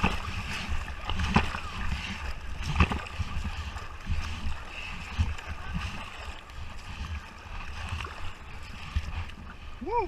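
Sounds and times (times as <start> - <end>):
river water splashing and gurgling: 0.0 - 10.0.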